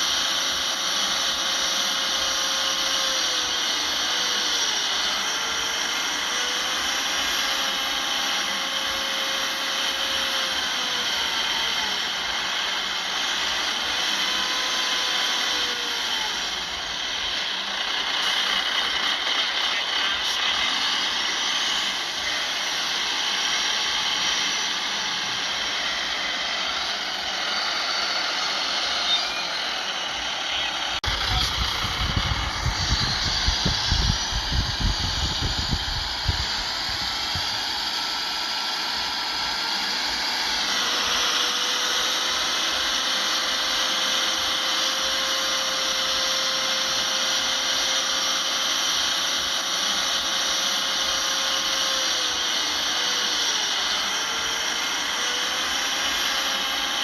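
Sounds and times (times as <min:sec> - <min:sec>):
heavy machinery engines running: 0:00.0 - 0:57.0.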